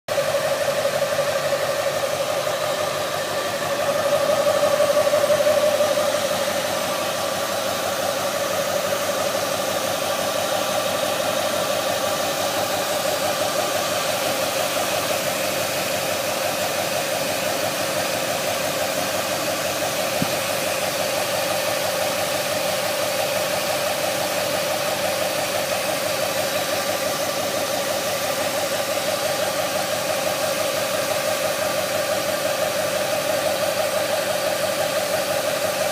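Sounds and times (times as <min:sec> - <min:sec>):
engine running: 0:00.1 - 0:35.9
high engine whine: 0:00.1 - 0:35.9.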